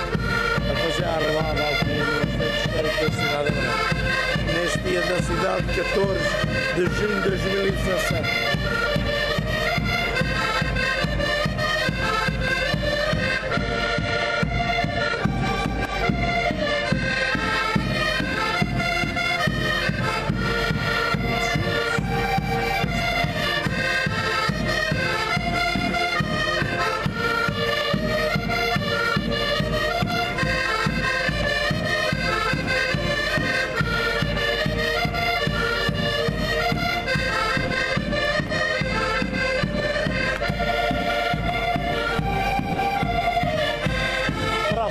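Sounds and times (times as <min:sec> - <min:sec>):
accordions playing a folk tune: 0:00.0 - 0:44.9.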